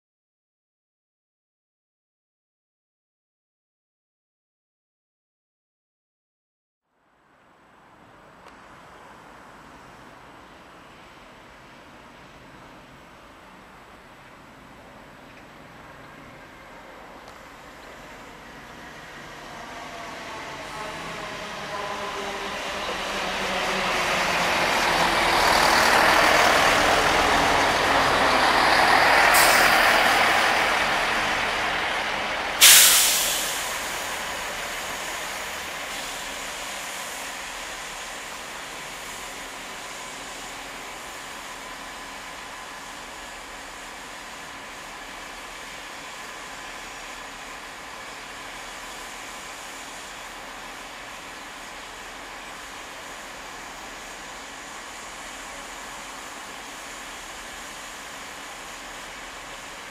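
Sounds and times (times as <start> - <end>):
diesel train passing: 7.1 - 59.9.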